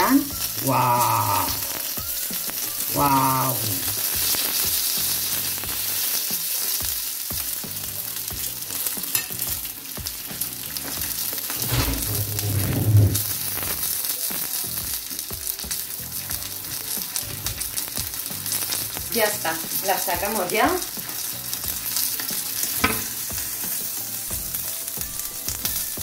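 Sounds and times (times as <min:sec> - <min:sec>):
scallops sizzling on griddle: 0:00.0 - 0:26.0.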